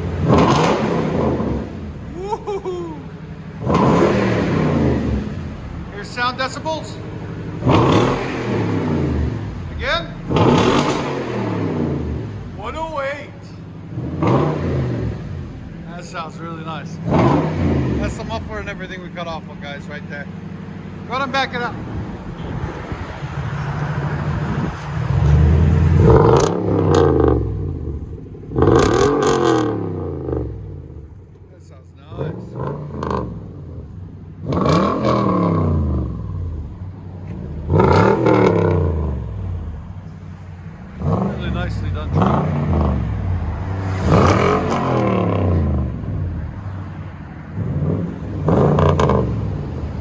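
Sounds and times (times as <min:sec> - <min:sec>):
engine revving: 0:00.0 - 0:50.0.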